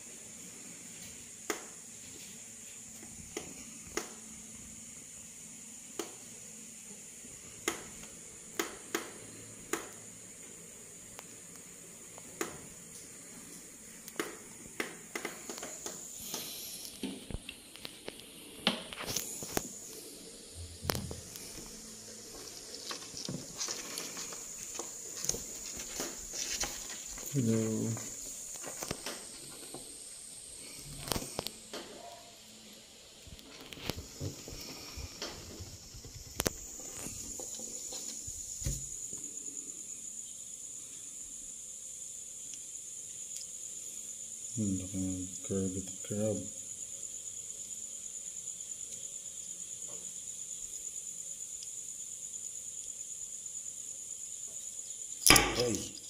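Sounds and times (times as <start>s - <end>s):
steady high-pitched hiss: 0.0s - 56.0s.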